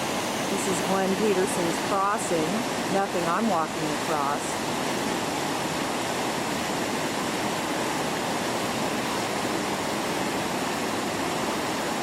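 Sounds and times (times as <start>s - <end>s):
creek water roaring: 0.0s - 12.0s.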